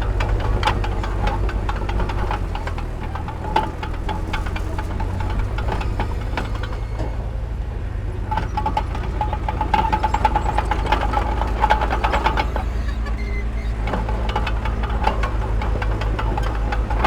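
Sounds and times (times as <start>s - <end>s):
metallic clicks and knocks: 0.0s - 7.2s, 8.3s - 17.0s
heavy diesel machinery rumbling: 0.0s - 17.0s.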